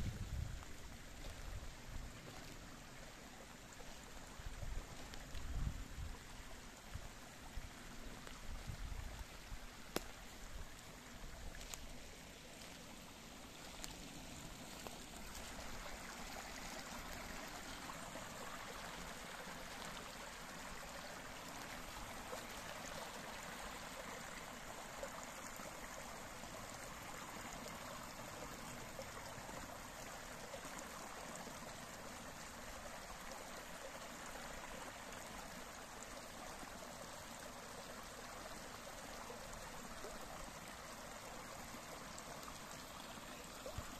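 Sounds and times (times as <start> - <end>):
stream trickling over riffles: 0.0 - 43.9.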